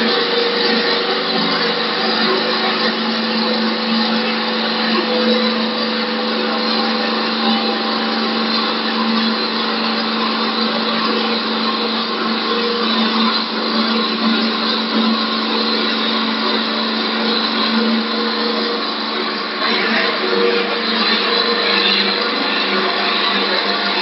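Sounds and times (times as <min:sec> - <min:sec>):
cutters shaving spinning wood: 0:00.0 - 0:24.0
motor hum: 0:00.0 - 0:24.0.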